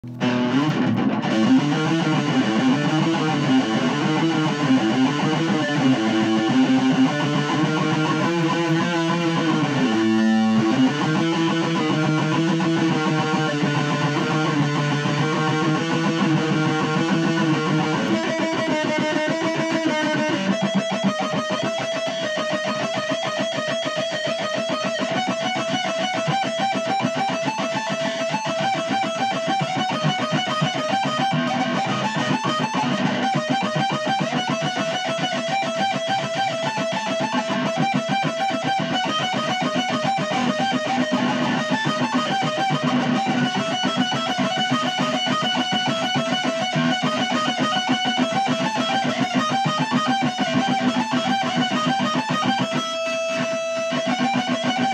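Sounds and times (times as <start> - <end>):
guitar picked and strummed: 0.0 - 54.9.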